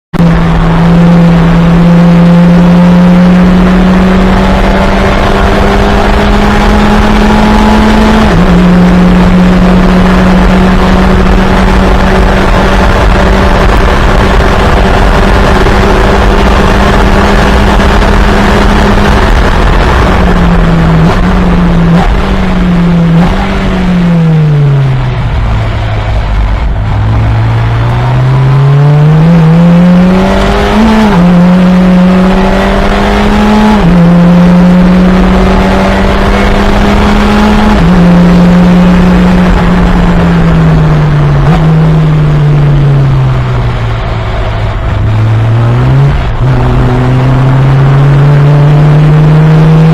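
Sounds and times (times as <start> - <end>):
race car engine revving: 0.1 - 49.9.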